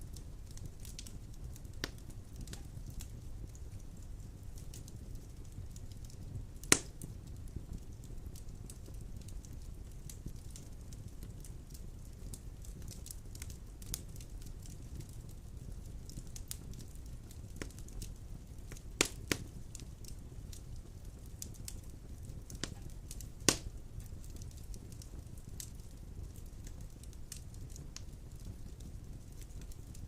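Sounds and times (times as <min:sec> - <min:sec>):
logs burning in fireplace: 0:00.0 - 0:30.0.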